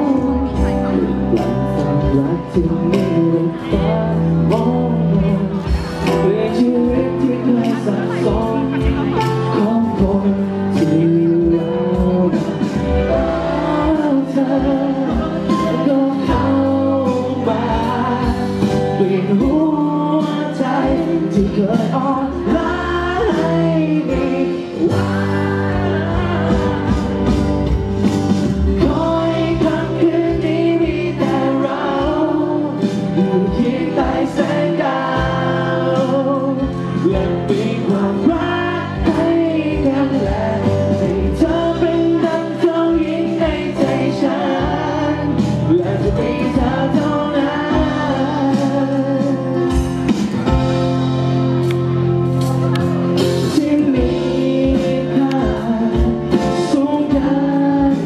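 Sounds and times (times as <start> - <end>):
full band playing: 0.0 - 58.0
man singing pop song live: 0.0 - 58.0.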